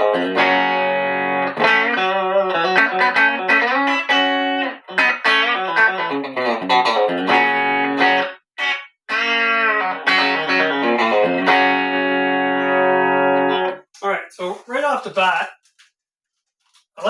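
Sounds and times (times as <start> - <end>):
electric guitar playing: 0.0 - 13.8.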